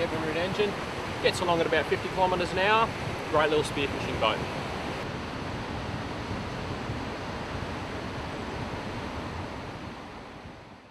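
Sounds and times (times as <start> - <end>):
ocean surf breaking on beach: 0.0 - 10.8
wind buffeting microphone: 0.0 - 10.9.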